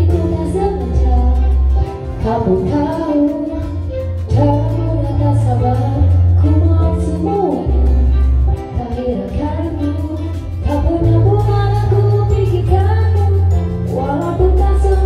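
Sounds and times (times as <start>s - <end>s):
pop backing track with heavy bass: 0.0s - 15.0s
woman singing into microphone: 0.0s - 15.0s.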